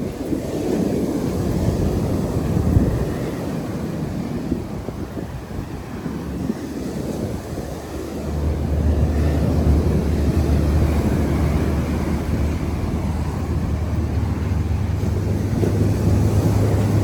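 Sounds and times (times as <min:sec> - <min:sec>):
outdoor noise haze: 0:00.0 - 0:17.0.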